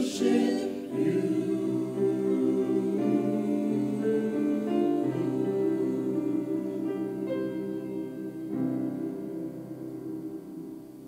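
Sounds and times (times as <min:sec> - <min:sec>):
keyboard holding chords: 0:00.0 - 0:11.0.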